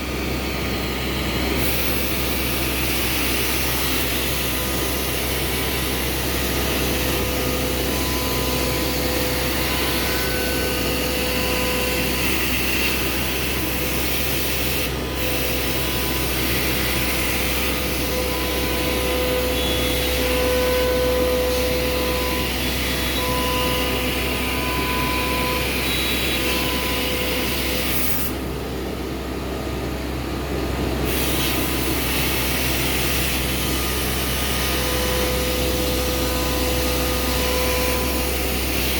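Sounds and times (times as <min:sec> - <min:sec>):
router spindle and extraction noise: 0:00.6 - 0:28.5, 0:31.1 - 0:38.9.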